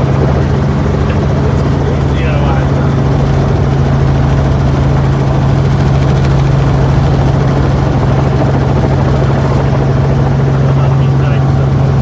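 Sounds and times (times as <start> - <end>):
helicopter rotor and turbine drone: 0.0 - 12.0.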